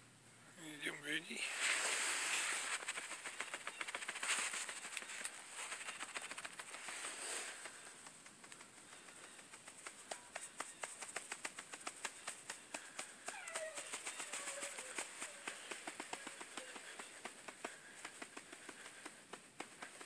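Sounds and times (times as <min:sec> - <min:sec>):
bird pecking in dry leaves: 0:01.4 - 0:20.0.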